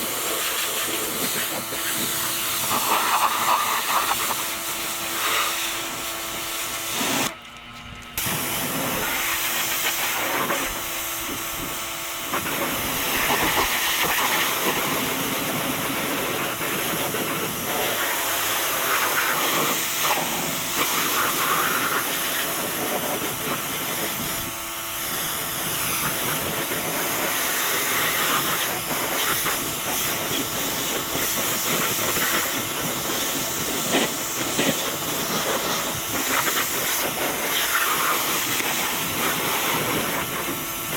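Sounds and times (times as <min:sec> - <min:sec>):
pressure washer spraying water: 0:00.0 - 0:07.4, 0:08.2 - 0:40.9.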